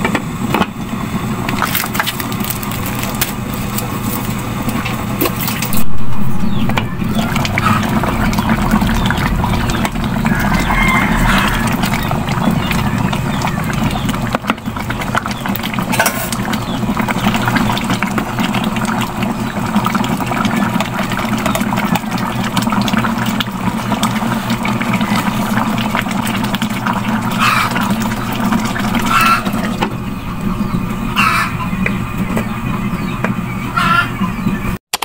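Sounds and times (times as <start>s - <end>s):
stew bubbling in a pot: 0.3s - 33.5s
low steady hum: 0.4s - 34.8s.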